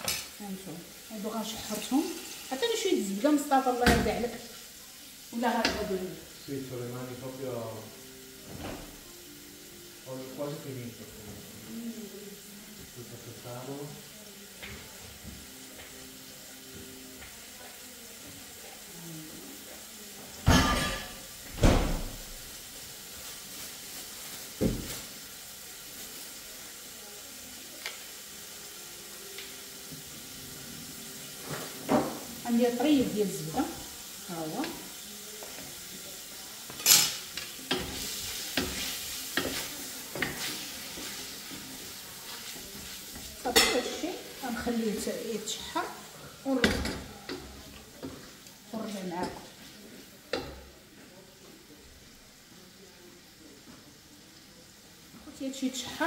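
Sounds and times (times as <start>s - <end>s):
faint background music: 0.0s - 56.0s
fish sizzling in hot oil: 0.0s - 56.0s.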